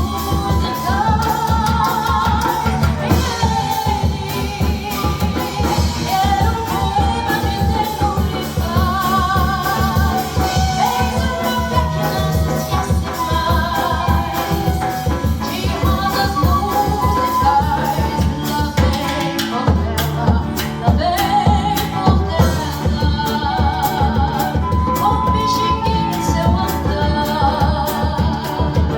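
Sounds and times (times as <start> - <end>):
flute melody: 0.0 - 19.2, 22.0 - 28.5
acoustic guitar: 0.0 - 28.9
hand percussion: 0.0 - 28.9
person singing: 0.0 - 28.9.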